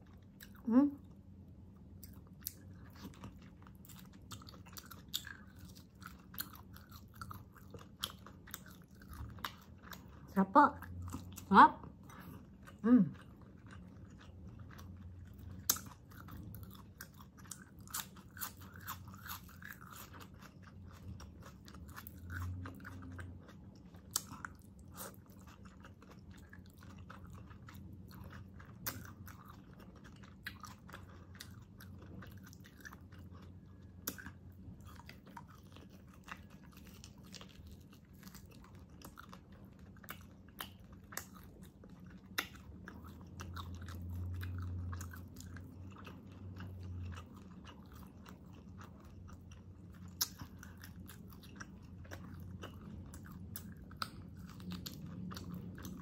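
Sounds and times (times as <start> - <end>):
person chewing and biting food: 1.8 - 56.0.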